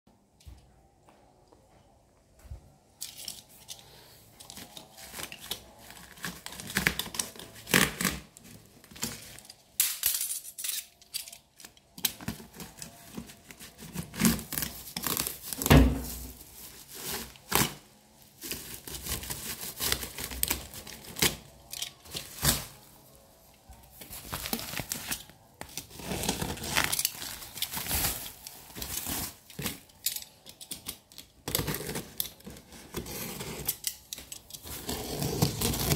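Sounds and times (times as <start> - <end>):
plastic packaging crinkling and ripping: 3.0 - 35.9.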